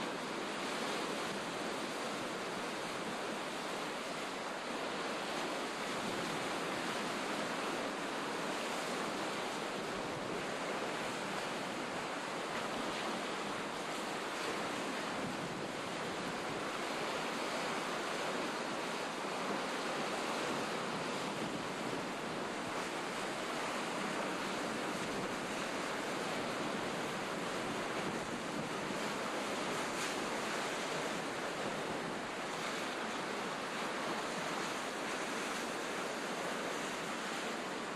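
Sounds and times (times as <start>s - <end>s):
sea surf rushing: 0.0s - 37.9s
wind: 0.0s - 37.9s.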